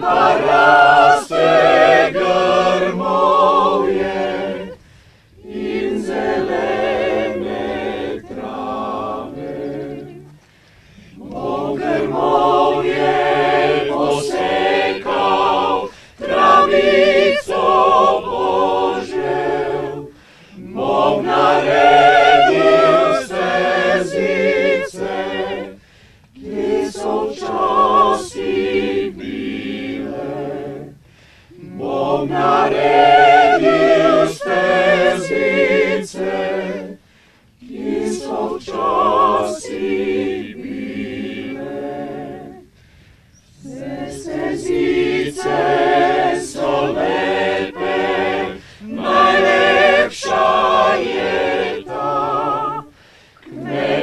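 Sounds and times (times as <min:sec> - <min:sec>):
unaccompanied choir singing: 0:00.0 - 0:42.8, 0:43.4 - 0:54.0.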